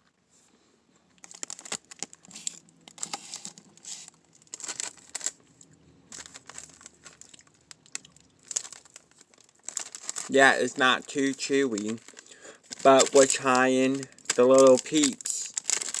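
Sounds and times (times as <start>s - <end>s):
candy wrapper crinkling: 1.2s - 16.0s.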